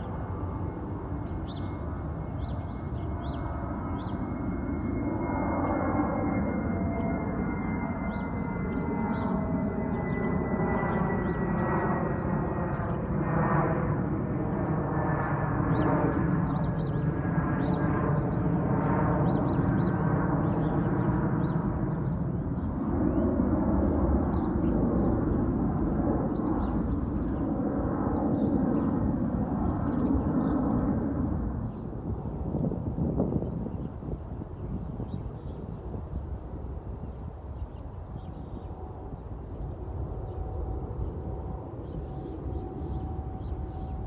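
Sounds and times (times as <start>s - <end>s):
high jet engine whine: 0.0s - 44.0s
jet engine rumble: 0.0s - 44.0s.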